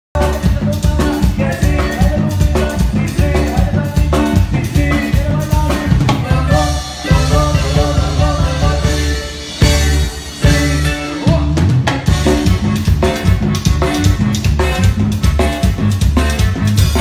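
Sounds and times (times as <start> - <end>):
drum kit beat: 0.2 - 17.0
electric bass: 0.2 - 17.0.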